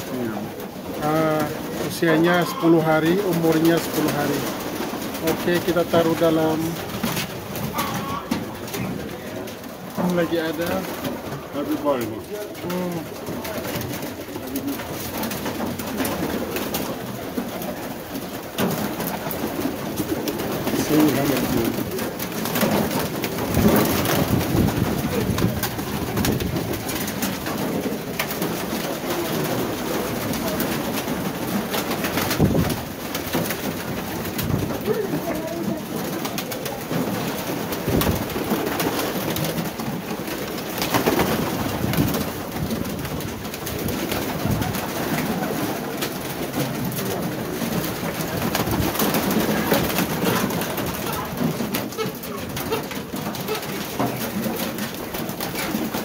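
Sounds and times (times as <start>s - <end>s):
pigeons cooing: 0.0s - 56.0s.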